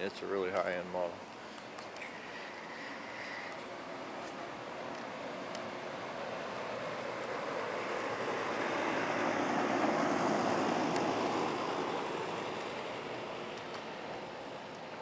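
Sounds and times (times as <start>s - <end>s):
air conditioner fan rushing: 0.0s - 15.0s.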